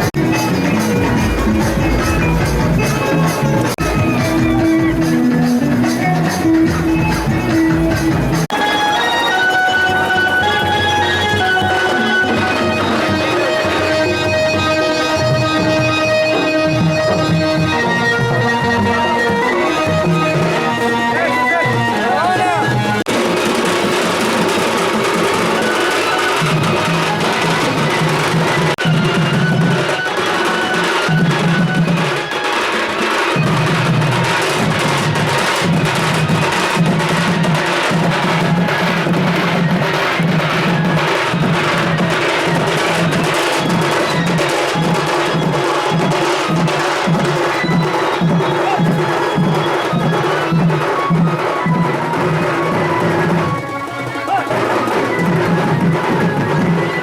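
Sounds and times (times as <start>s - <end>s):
folk music with fast drumming: 0.0s - 57.0s.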